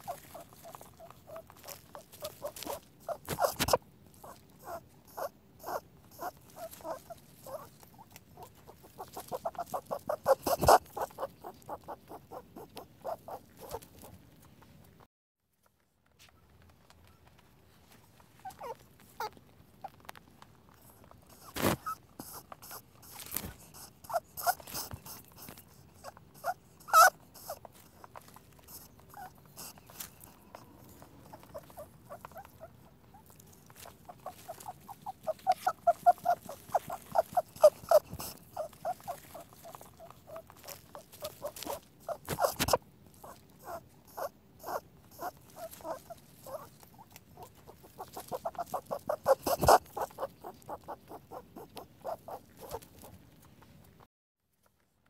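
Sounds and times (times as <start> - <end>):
rabbit squeaking: 0.0 - 14.6, 18.3 - 20.1, 20.7 - 54.0
rabbit clicking: 0.0 - 15.0, 20.0 - 54.0.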